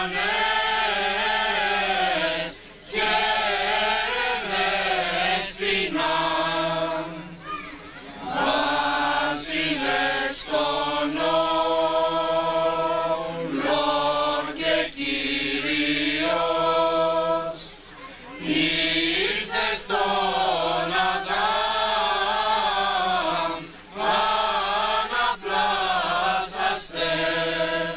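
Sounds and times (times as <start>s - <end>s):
group singing slow chant: 0.0s - 7.4s, 8.2s - 27.9s.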